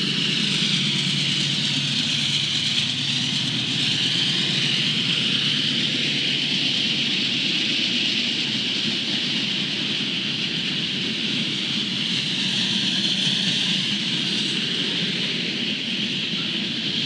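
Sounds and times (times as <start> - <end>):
freight train rumbling past: 0.0 - 17.0
steel wheels hissing on rail: 0.0 - 17.0.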